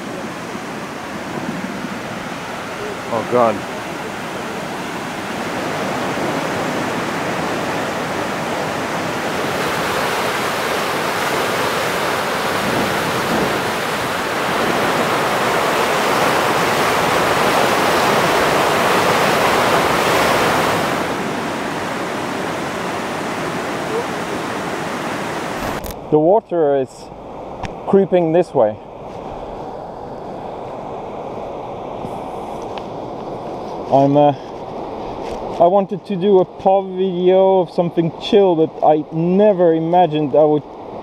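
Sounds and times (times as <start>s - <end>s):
floodwater rushing and churning: 0.0s - 41.0s.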